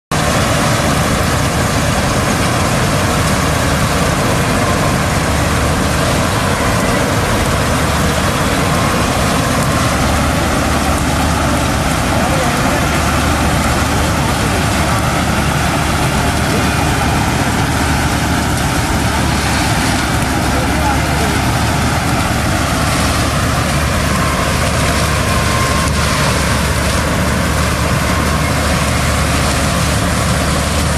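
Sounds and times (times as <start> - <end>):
combine harvester engine drone: 0.1 - 30.9.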